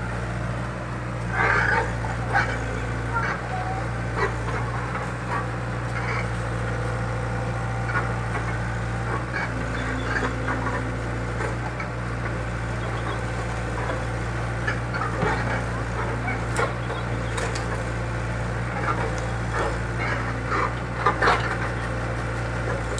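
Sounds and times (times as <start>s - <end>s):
excavator engine running: 0.0s - 22.9s.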